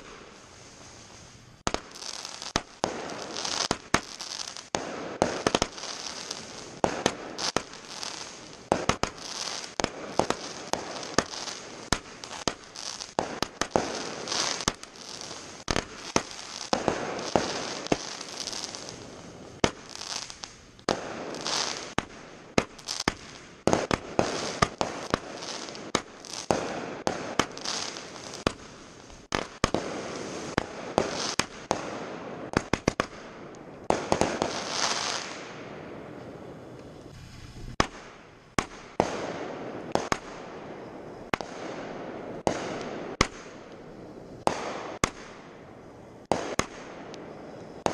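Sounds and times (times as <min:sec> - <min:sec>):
fireworks bangs and pops: 0:00.0 - 0:47.9
fireworks crackling: 0:00.0 - 0:47.9.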